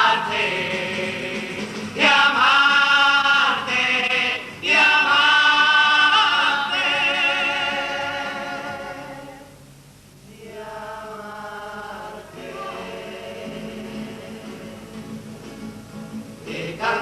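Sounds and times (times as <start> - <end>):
choir singing: 0.0 - 9.6, 10.3 - 15.4, 16.4 - 17.0.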